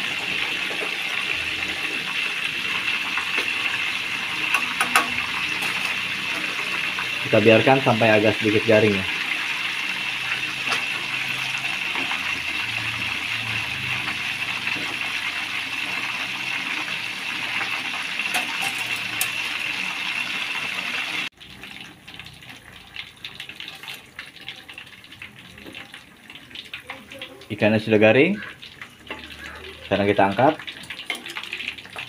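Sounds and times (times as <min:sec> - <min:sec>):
bubbling oil crackle: 0:00.0 - 0:32.0
fish sizzling in hot oil: 0:00.0 - 0:32.0.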